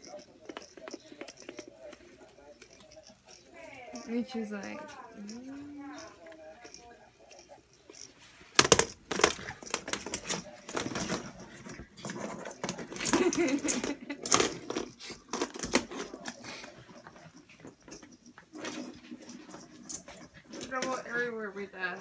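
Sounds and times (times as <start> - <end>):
plastic ball clattering on floor: 0.0 - 21.3.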